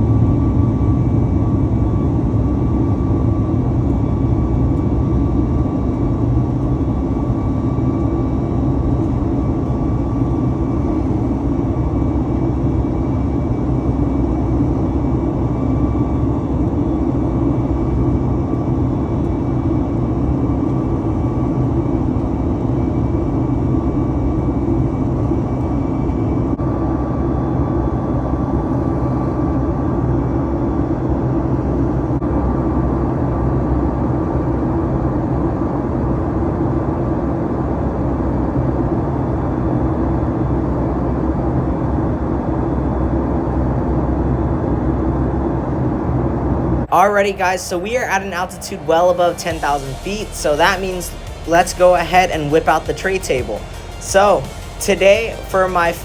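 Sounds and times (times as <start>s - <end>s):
faint steady whine: 0.0s - 56.0s
jet engine rumble and airflow: 0.0s - 56.0s.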